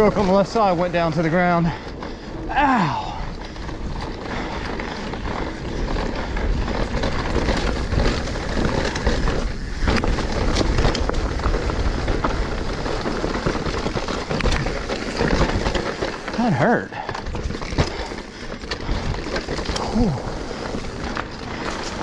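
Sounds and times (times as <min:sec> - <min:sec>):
bike clicks and rattles: 0:00.0 - 0:22.0
bike tyres crunching over dirt: 0:00.0 - 0:22.0.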